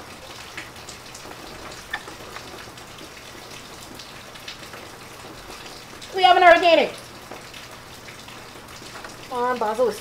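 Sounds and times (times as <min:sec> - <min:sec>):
rain drop ticks: 0:00.0 - 0:10.0
steady rain hiss: 0:00.0 - 0:10.0.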